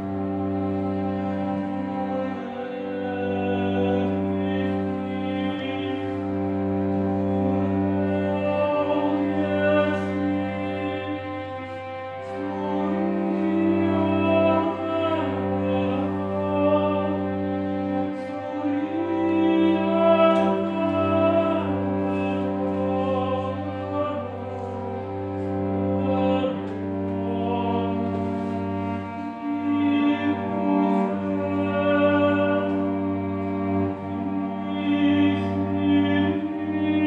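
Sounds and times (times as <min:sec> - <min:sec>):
cello bowed in long notes: 0:00.0 - 0:37.0.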